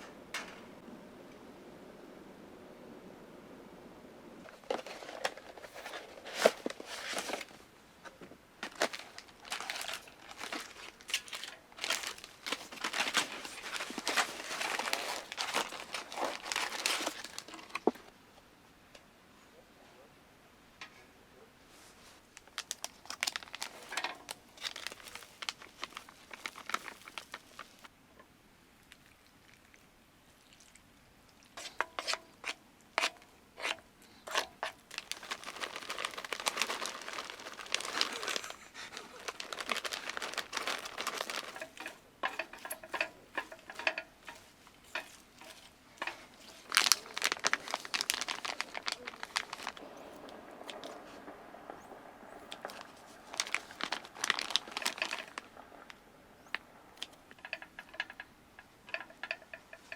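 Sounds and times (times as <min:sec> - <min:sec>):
crinkling handling noises: 0:04.4 - 0:18.1, 0:21.7 - 0:27.9, 0:31.4 - 0:59.9.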